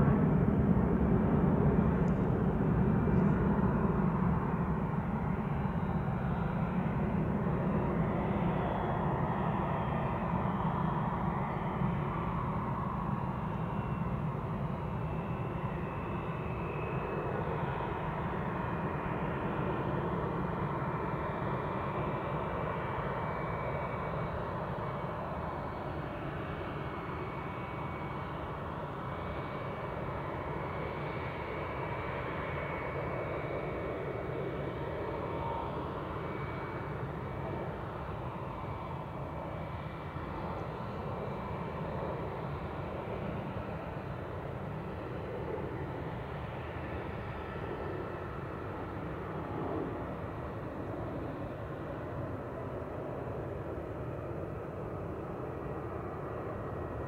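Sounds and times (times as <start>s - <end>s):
high engine whine: 0.0s - 57.0s
jet engines taxiing rumble: 0.0s - 57.0s.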